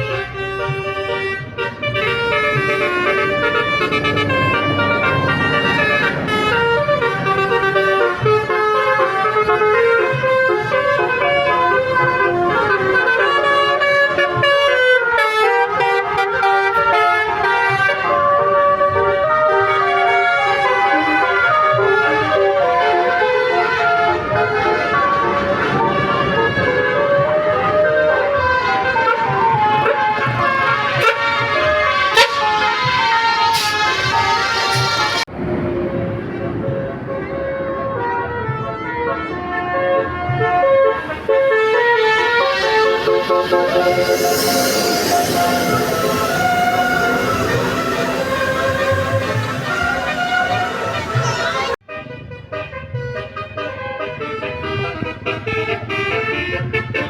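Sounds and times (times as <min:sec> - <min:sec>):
multi-trumpet air horn melody: 0:00.0 - 0:35.3, 0:37.2 - 0:57.0.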